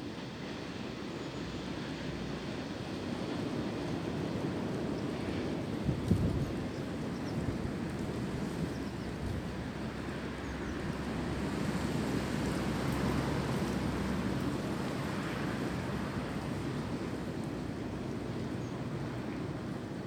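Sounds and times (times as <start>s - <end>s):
wind through tree branches: 0.0s - 20.0s
wind rumble on microphone: 3.7s - 20.0s.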